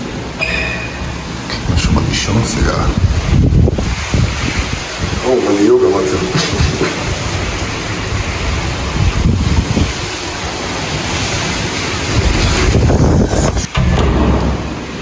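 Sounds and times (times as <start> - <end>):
wind buffeting microphone: 1.2 - 15.0.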